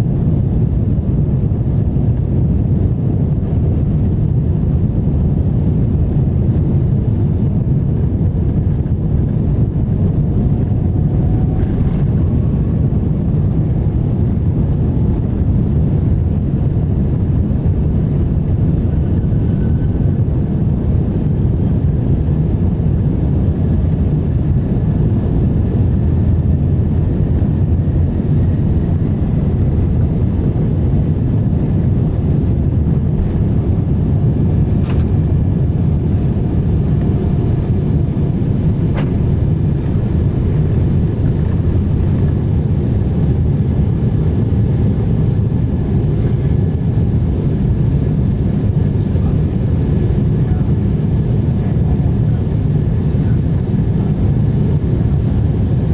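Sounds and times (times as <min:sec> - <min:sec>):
airplane engine rumble: 0:00.0 - 0:55.9.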